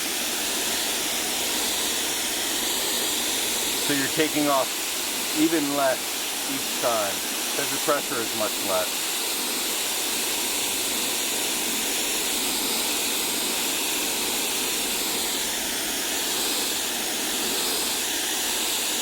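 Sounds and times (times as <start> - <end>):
pressure washer spraying concrete: 0.0 - 19.0.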